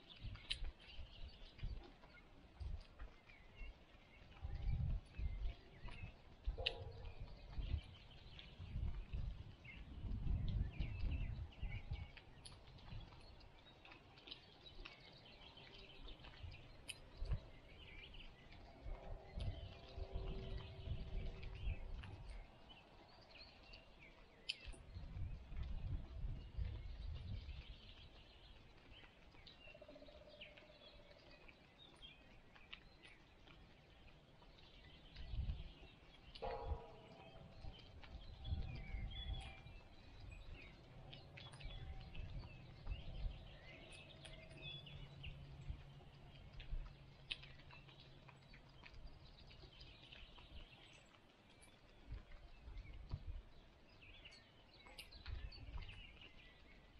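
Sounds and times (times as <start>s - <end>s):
wind gusting on microphone: 0.0s - 34.1s, 34.7s - 56.9s
birds chirping: 0.0s - 56.9s.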